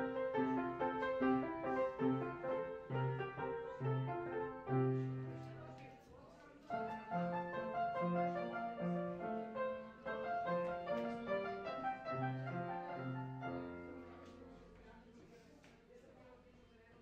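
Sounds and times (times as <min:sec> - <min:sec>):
classical piano music: 0:00.0 - 0:05.9, 0:06.6 - 0:14.8.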